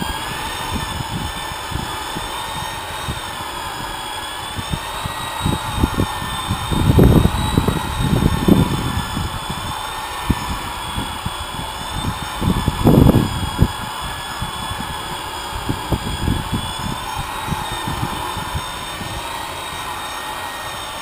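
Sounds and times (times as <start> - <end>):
electric polisher whining: 0.0 - 21.0.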